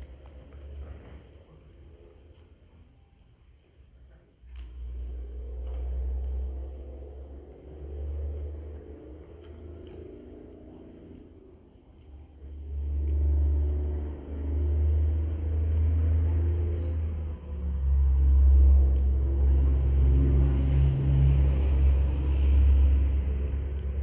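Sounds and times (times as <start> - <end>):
loud low rumble: 4.8 - 24.0.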